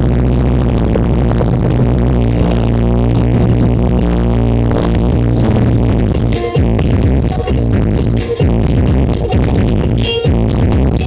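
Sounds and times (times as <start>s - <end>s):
heavy steady bass: 0.0s - 11.0s
electronic dance music: 0.2s - 11.0s.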